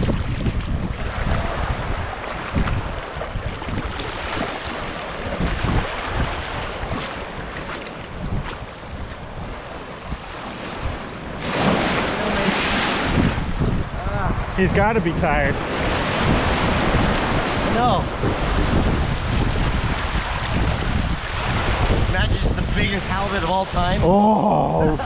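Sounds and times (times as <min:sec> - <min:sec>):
small waves washing on beach: 0:00.0 - 0:25.0
wind buffeting microphone: 0:00.0 - 0:25.0.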